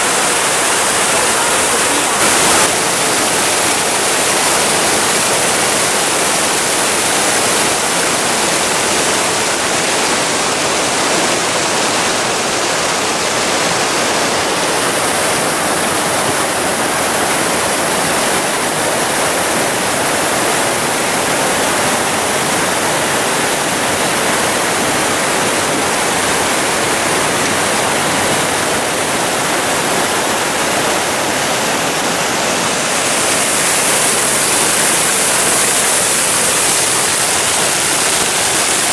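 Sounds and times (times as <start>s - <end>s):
fountain water splashing into pool: 0.0s - 38.9s.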